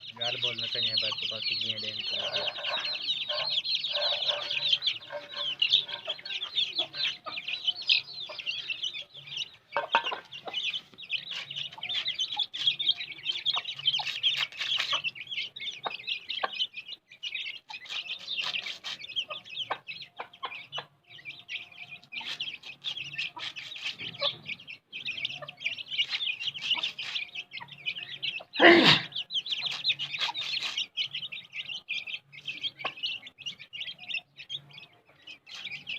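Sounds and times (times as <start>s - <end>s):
chicks peeping: 0.0s - 35.9s
hen clucking: 0.0s - 35.9s.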